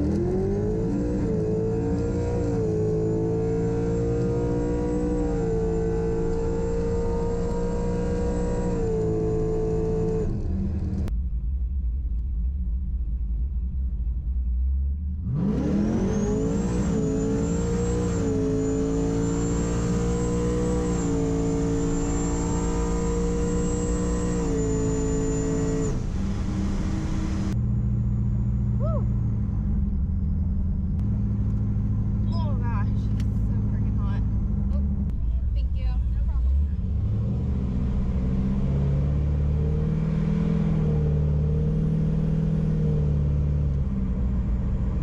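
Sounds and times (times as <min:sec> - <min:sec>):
car engine running: 0:00.0 - 0:45.0
supercharger whine: 0:00.0 - 0:45.0.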